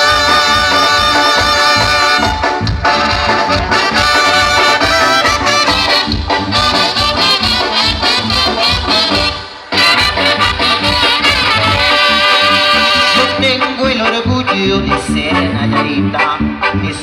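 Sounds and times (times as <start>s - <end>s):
bass: 0.0s - 17.0s
drums: 0.0s - 17.0s
trumpets and trombones: 0.0s - 17.0s.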